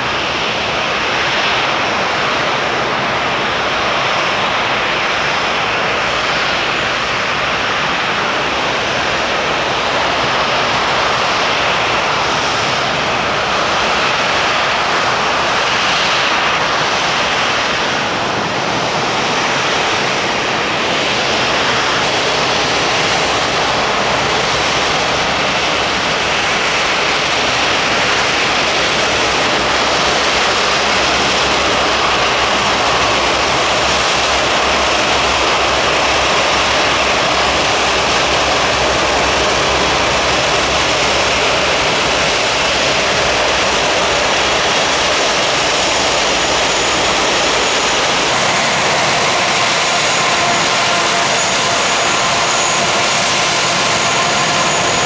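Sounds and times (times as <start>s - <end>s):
jet engines rushing at taxi power: 0.0s - 55.0s.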